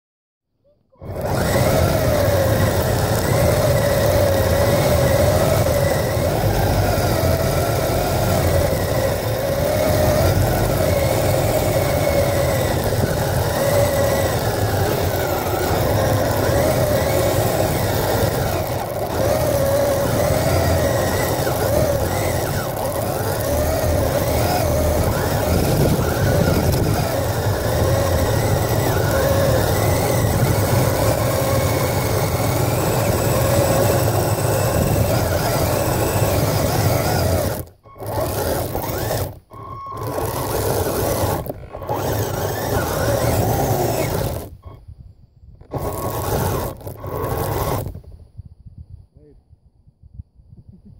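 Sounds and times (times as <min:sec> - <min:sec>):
electric motor whining: 0:00.9 - 0:44.8, 0:45.6 - 0:48.1.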